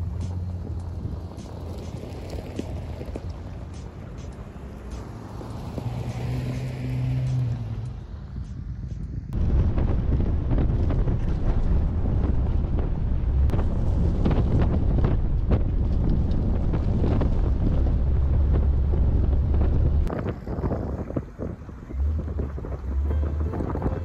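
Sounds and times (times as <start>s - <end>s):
wind buffeting camera: 0.0s - 24.0s.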